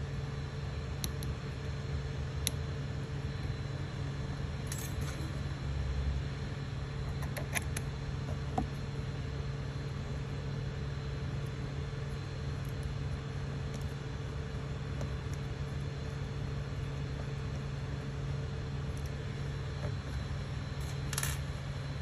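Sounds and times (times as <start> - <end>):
printer fans humming: 0.0 - 22.0.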